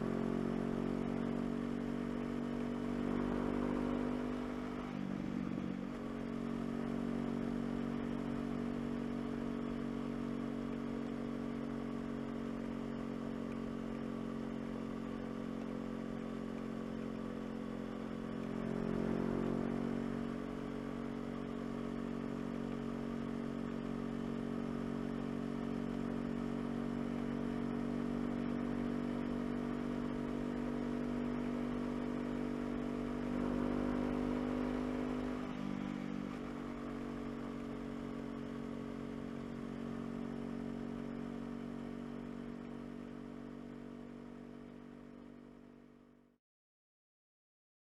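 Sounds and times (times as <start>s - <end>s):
motorcycle engine running: 0.0s - 46.1s.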